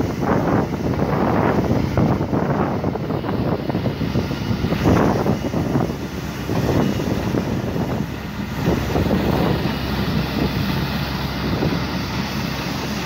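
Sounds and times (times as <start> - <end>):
sweeper engine humming: 0.0 - 13.0
wind buffeting microphone: 0.0 - 13.0.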